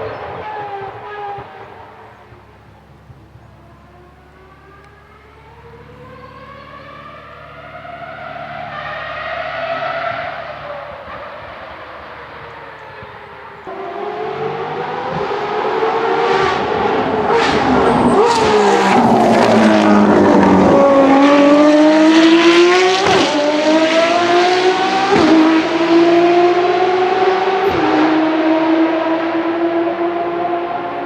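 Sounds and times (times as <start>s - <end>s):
race car engine accelerating: 0.0s - 31.0s.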